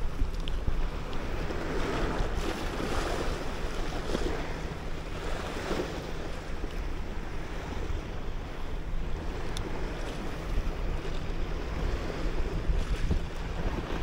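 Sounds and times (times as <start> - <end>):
sea waves lapping on rocks: 0.0 - 14.0
wind rumble on microphone: 0.0 - 14.0.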